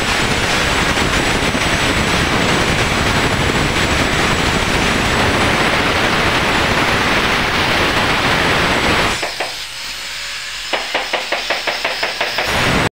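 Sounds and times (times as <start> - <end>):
loud rushing hiss: 0.0 - 12.9.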